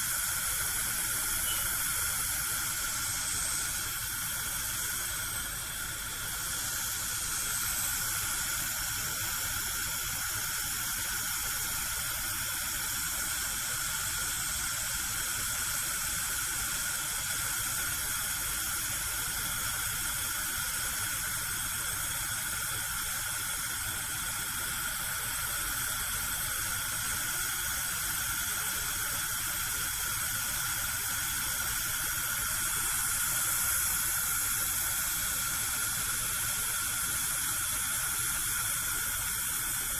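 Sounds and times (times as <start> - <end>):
gas flame hissing: 0.0 - 39.9.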